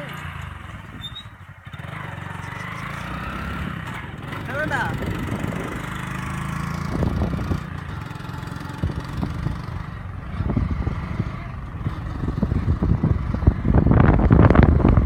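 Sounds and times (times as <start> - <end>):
motorcycle engine hum: 0.0 - 15.0
wind rumble on microphone: 0.5 - 15.0.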